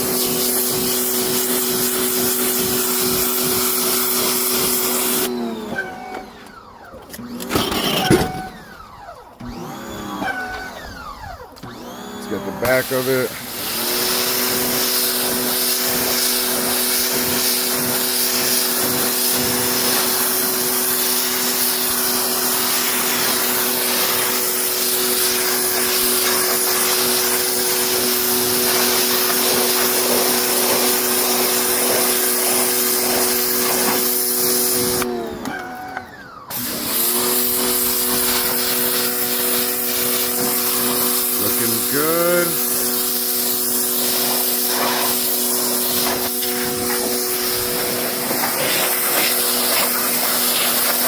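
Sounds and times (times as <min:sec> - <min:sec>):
water jet spraying on fabric: 0:00.0 - 0:05.3, 0:12.7 - 0:35.0, 0:36.6 - 0:51.0
pressure washer motor humming: 0:00.0 - 0:51.0.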